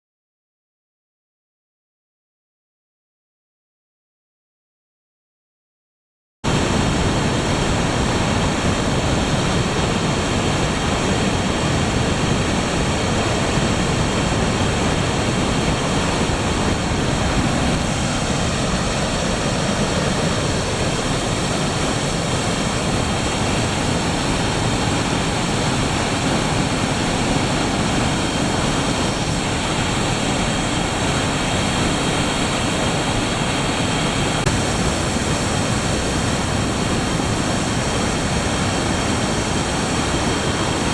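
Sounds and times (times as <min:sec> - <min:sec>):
dam spillway water rushing: 0:06.5 - 0:40.9.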